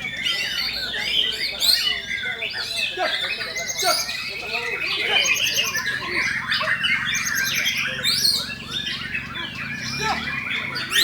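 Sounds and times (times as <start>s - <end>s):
songbird whistling and trilling: 0.0s - 11.0s.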